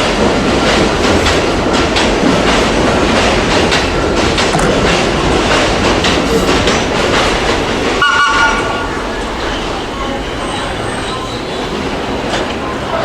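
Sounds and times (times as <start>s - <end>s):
train wheels rushing on rail: 0.0s - 13.0s
wheels clicking over rail joints: 0.0s - 13.0s.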